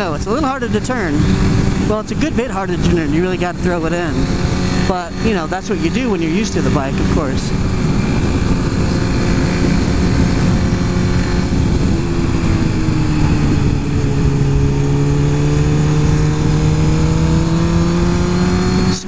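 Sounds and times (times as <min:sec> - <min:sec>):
heavy wind noise: 0:00.0 - 0:19.0
motorcycle engine running: 0:00.0 - 0:19.0.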